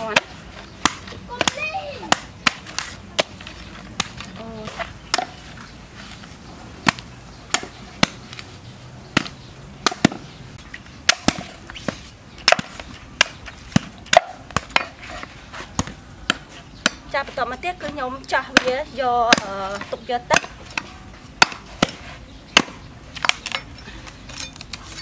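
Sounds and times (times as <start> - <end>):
cleaver chopping coconut husk: 0.0 - 5.5, 6.8 - 8.5, 9.1 - 10.4, 11.0 - 24.3.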